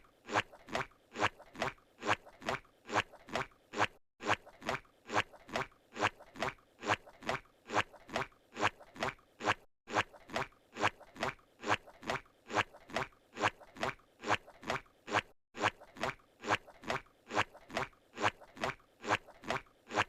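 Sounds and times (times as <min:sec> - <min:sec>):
squishy cartoon footsteps: 0:00.0 - 0:20.0.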